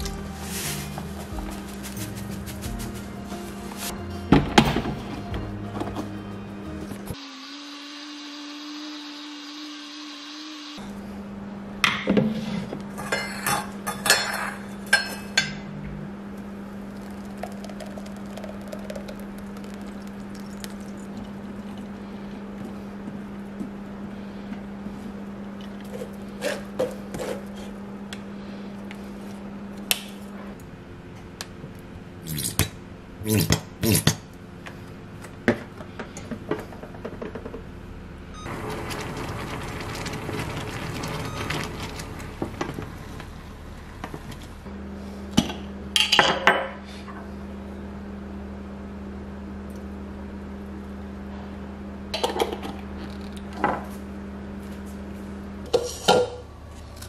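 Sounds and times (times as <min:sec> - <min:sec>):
low steady hum: 0:10.8 - 0:57.0.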